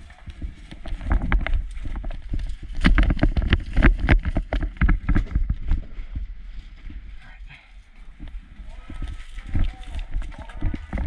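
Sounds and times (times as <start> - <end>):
microphone handling rumble: 0.0 - 11.0.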